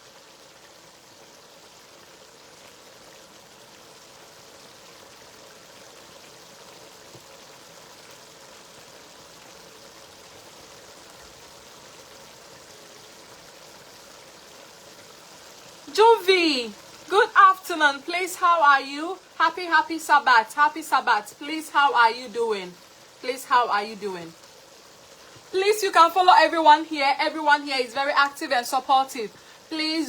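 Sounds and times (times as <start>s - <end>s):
stew sizzling in oil: 0.0s - 30.0s.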